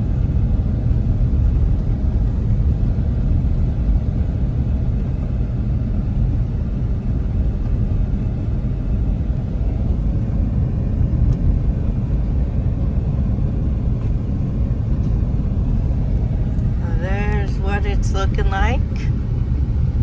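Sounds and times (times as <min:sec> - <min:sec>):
car driving on unpaved road: 0:00.0 - 0:20.0.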